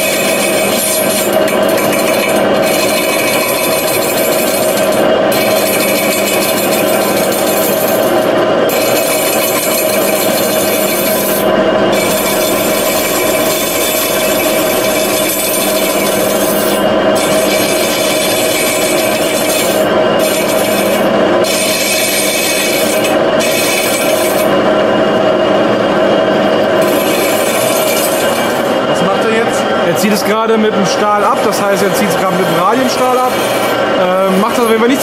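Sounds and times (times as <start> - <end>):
lathe machining hum: 0.0 - 35.0.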